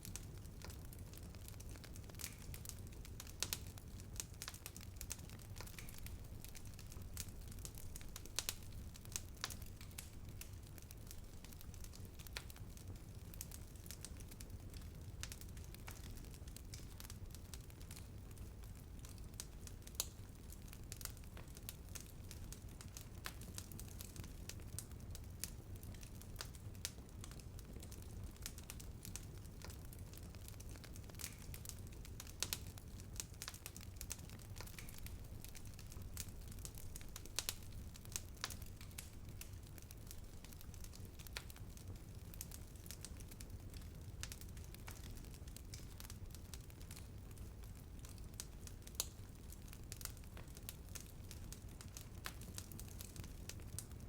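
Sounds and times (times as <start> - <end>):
fire low rumble: 0.0 - 54.0
wood fire crackling and popping: 0.0 - 54.0.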